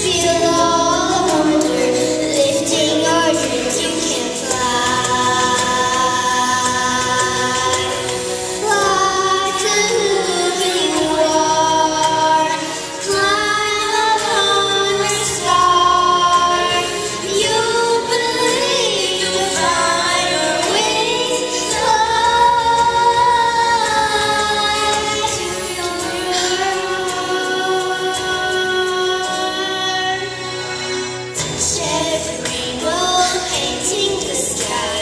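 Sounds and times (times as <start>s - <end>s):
girl singing into a microphone: 0.0s - 30.4s, 31.6s - 35.0s.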